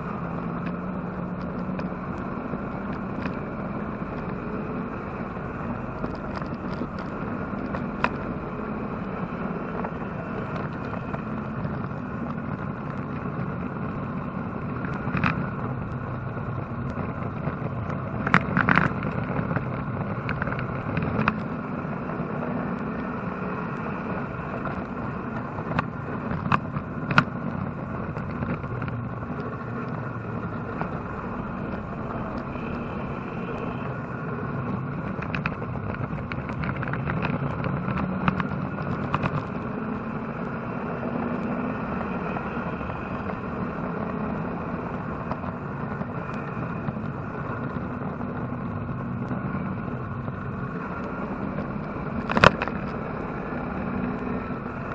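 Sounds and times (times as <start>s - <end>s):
race car engine and road noise: 0.0s - 54.9s.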